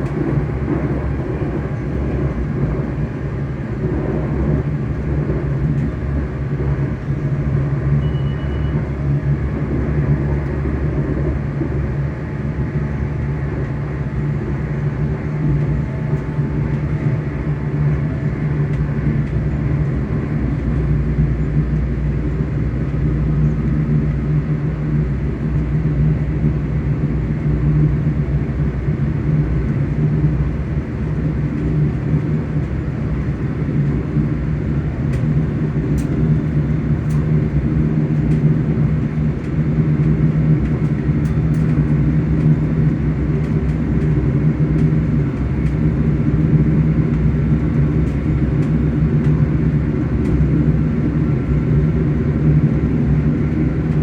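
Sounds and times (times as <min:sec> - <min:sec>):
electric train humming: 0:00.0 - 0:54.0.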